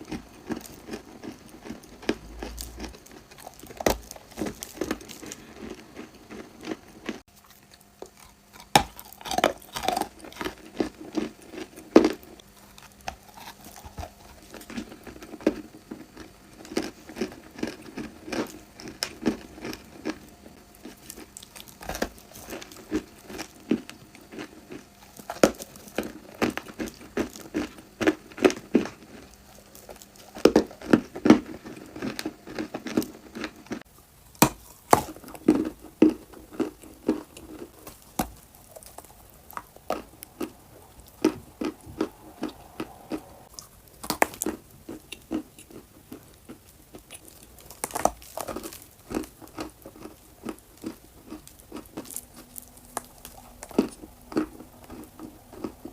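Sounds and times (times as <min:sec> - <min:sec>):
person crunching dry clay: 0:00.0 - 0:55.9.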